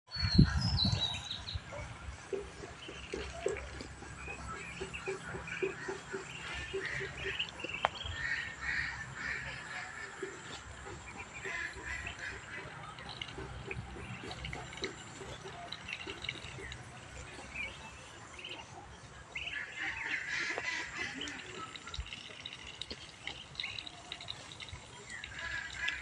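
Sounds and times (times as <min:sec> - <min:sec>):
ducks calling: 0:01.4 - 0:26.0
ducks dabbling in water: 0:01.6 - 0:26.0.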